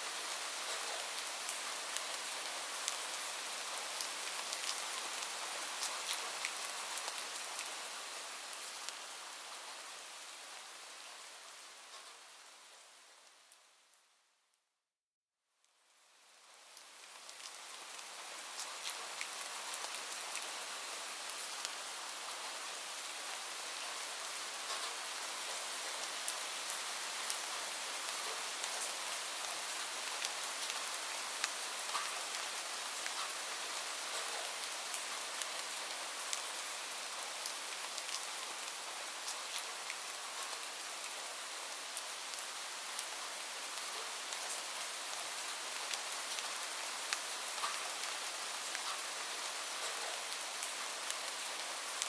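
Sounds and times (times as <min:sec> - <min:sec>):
steady rain falling: 0:00.0 - 0:14.3, 0:15.6 - 0:52.0.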